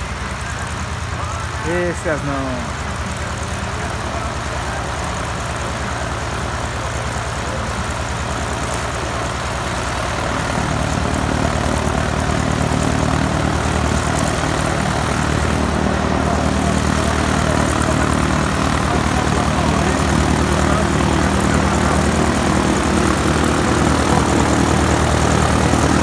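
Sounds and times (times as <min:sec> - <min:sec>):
plane piston engine and propeller: 0:00.0 - 0:26.0.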